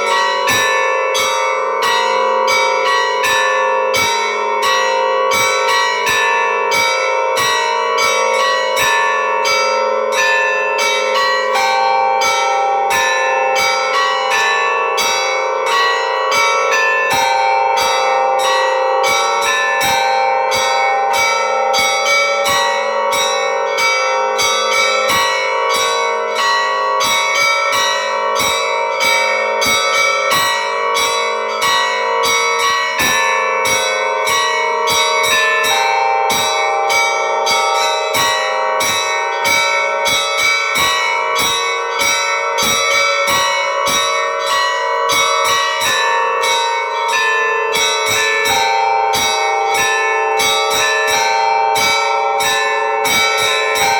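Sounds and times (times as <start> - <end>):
church bells pealing: 0.0 - 53.9.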